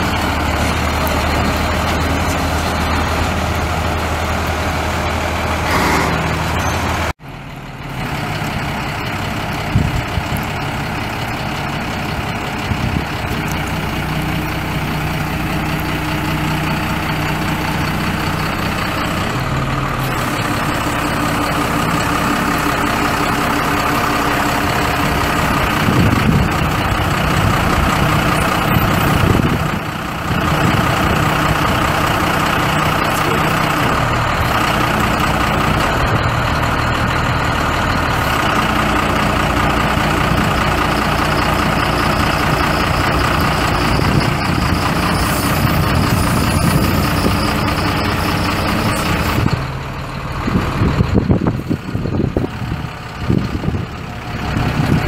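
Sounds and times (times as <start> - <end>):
diesel truck idling: 0.0 - 55.0.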